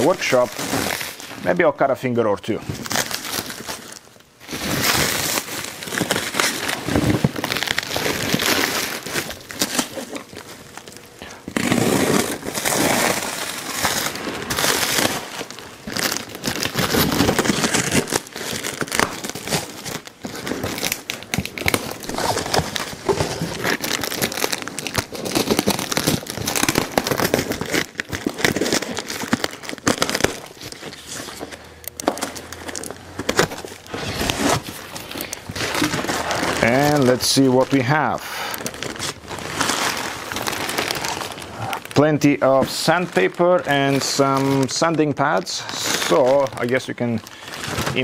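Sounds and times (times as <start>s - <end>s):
plastic wrap crinkling and tearing: 0.0s - 48.0s.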